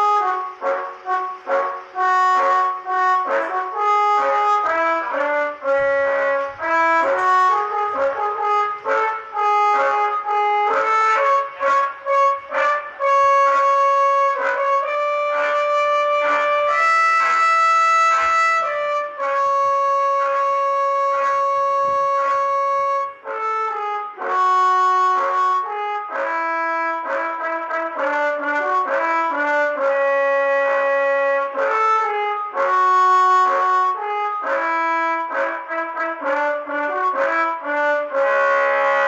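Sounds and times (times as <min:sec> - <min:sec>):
musical bus air horn: 0:00.0 - 0:39.0.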